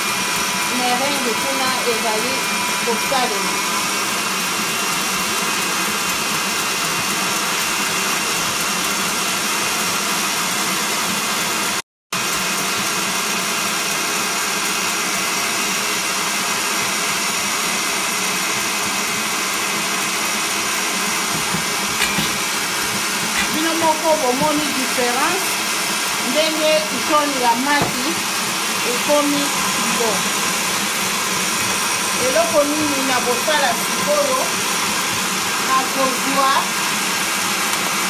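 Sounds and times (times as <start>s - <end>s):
stand mixer motor whine: 0.0s - 38.0s.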